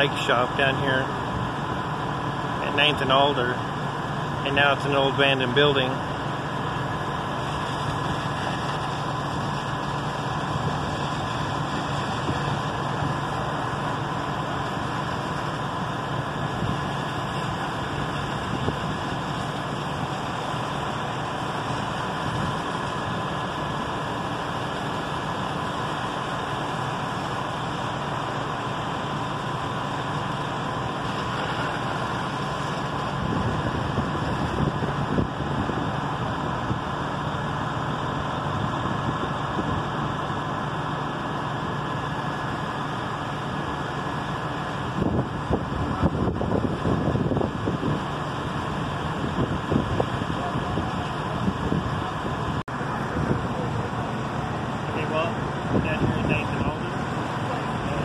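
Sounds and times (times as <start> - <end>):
fire engine pumps droning: 0.0 - 58.0
hose stream noise: 0.0 - 58.0.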